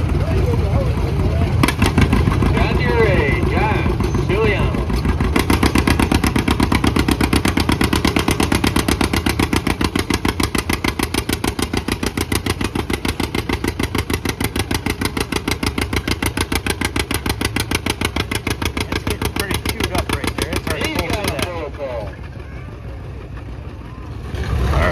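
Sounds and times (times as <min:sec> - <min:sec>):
tractor engine popping: 0:00.0 - 0:24.9.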